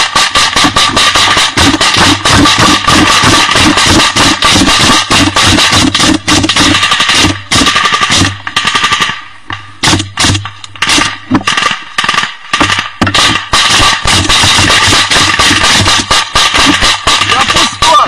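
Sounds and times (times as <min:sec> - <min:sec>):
machine gun firing: 0:00.0 - 0:09.2, 0:09.8 - 0:18.0.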